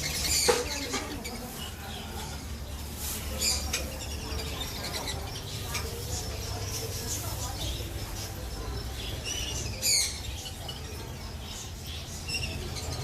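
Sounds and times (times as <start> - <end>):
faint background chatter: 0.0 - 13.0
small animals chirping and squeaking: 0.0 - 13.0.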